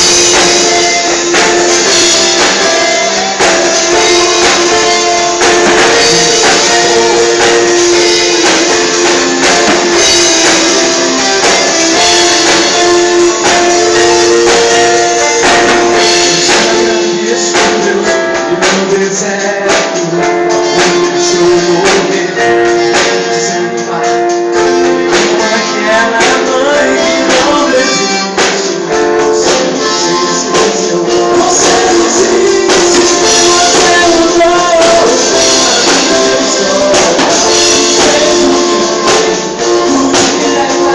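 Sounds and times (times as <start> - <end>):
band music: 0.0 - 40.9
sustained guitar: 0.0 - 40.9
tambourine beat: 0.0 - 40.9.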